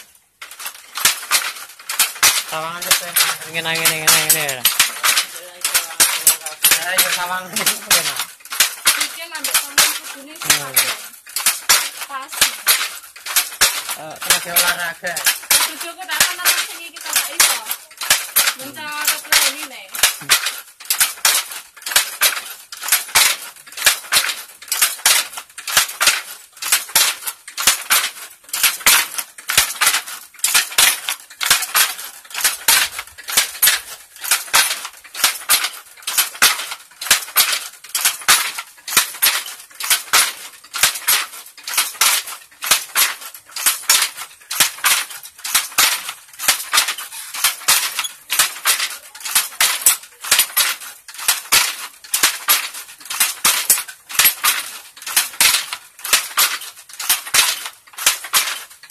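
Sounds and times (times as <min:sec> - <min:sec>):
wooden loom clacking: 0:00.0 - 0:58.9.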